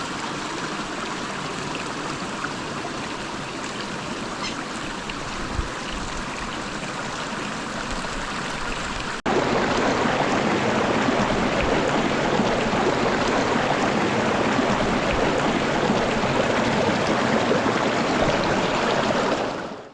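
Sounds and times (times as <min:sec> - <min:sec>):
river water flowing: 0:00.0 - 0:19.9.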